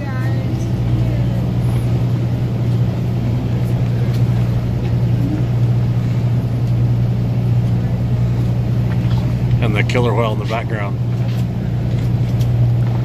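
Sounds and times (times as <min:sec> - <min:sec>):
boat engine humming: 0:00.0 - 0:13.0
wind: 0:00.0 - 0:13.0.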